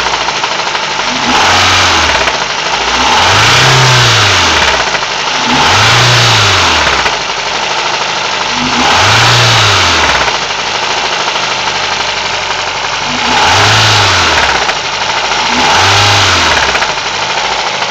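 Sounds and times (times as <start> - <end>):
car engine idling and revving: 0.0 - 17.9
engine knocking noise: 0.0 - 17.9.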